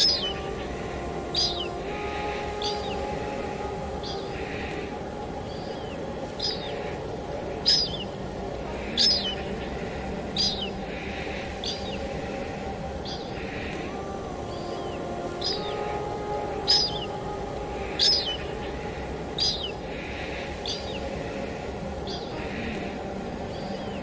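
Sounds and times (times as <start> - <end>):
bird chirping: 0.0 - 24.0
low steady hum: 0.0 - 24.0
rain hissing: 0.0 - 24.0.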